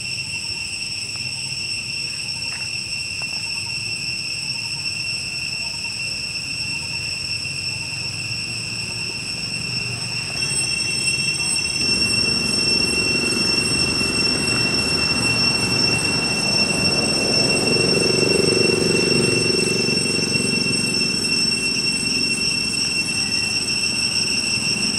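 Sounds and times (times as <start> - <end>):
cicadas droning: 0.0 - 24.9.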